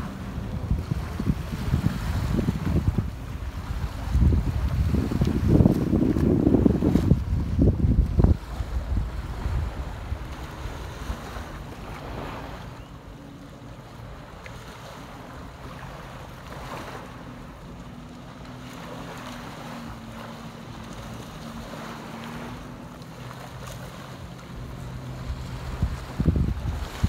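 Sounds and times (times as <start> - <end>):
surf washing onto beach: 0.0 - 12.7, 14.0 - 27.0
wind buffeting microphone: 0.0 - 27.0.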